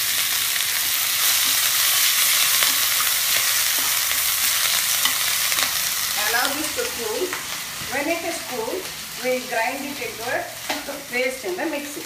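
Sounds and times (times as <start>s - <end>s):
curry leaves sizzling in hot oil: 0.0s - 12.0s.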